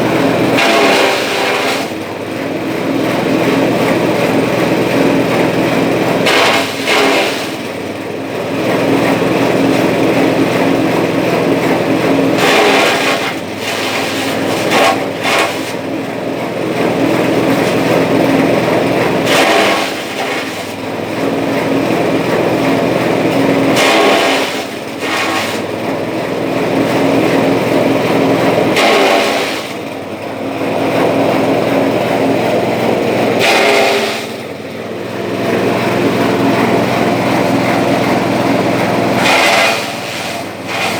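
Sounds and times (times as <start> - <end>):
blades cutting grass: 0.0 - 40.9
chaff cutter engine running: 0.0 - 40.9.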